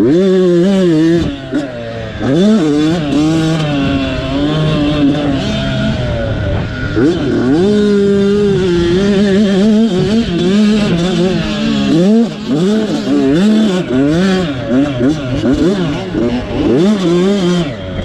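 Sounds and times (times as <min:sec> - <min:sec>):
dirt bike engine racing: 0:00.0 - 0:18.0.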